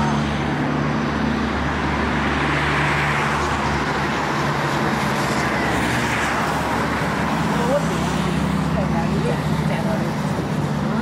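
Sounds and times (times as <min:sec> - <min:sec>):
passing road traffic: 0:00.0 - 0:11.0.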